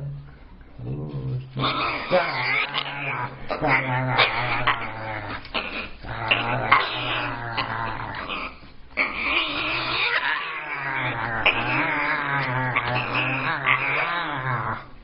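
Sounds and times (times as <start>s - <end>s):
parrot growling harshly: 0.8s - 15.0s.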